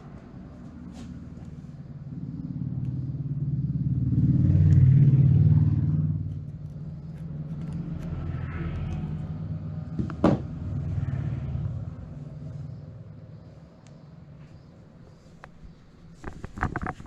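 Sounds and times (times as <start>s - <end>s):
vehicle engine driving past: 0.0s - 15.2s.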